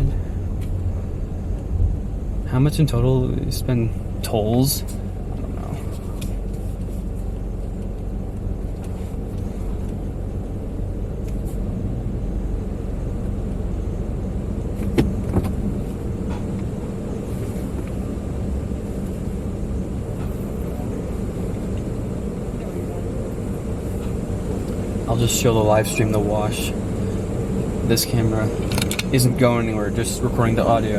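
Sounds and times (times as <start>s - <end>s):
car engine low hum: 0.0s - 30.9s.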